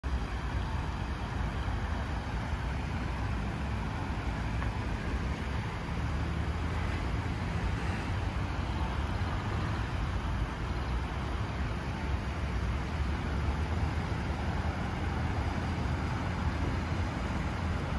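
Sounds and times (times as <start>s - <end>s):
fountain water splashing: 0.0s - 17.9s
low hum of city traffic: 0.0s - 17.9s.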